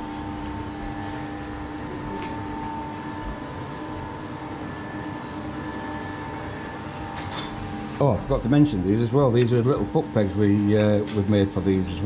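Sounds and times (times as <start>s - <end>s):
machine motor humming and whining: 0.0s - 12.0s.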